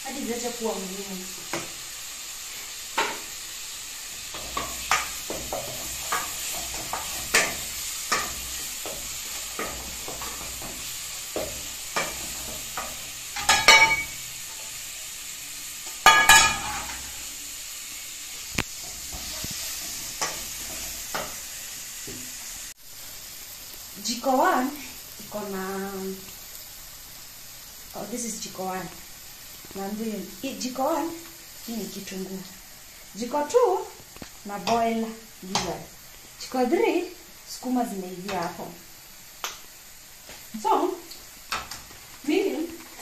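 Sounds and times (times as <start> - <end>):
gas burners hissing: 0.0 - 43.0
pot boiling: 0.0 - 43.0.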